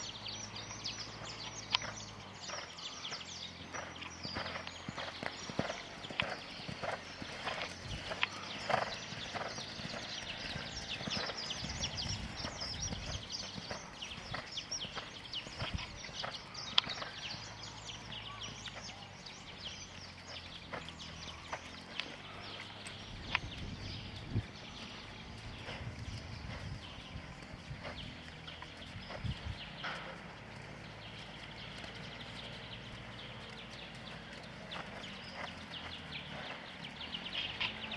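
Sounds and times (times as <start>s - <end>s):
horse hoofbeats on sand: 0.0s - 37.9s.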